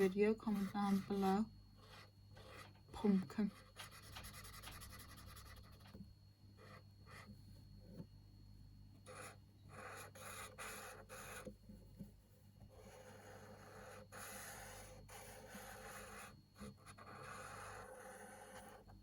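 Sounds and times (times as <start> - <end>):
marker scratching on paper: 0.0 - 6.0, 6.6 - 7.3, 9.1 - 11.5, 12.7 - 18.8.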